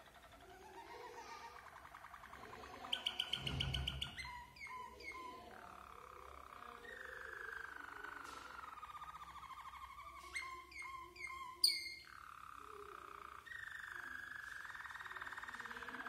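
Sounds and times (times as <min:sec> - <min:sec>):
canary trilling song: 0:00.0 - 0:16.0.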